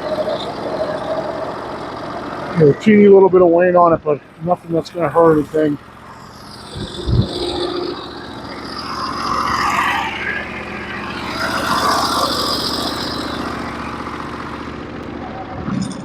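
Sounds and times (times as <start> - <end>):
sawmill gas engine running: 0.0 - 15.7.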